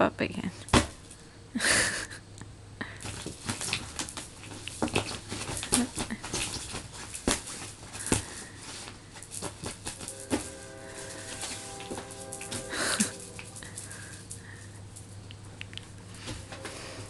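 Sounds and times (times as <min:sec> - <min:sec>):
cats scuffling and scratching: 0:02.9 - 0:17.0.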